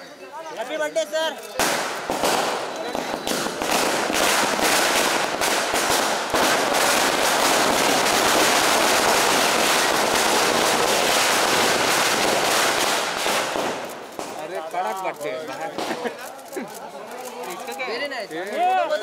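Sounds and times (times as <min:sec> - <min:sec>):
firecrackers crackling: 0:01.5 - 0:18.1.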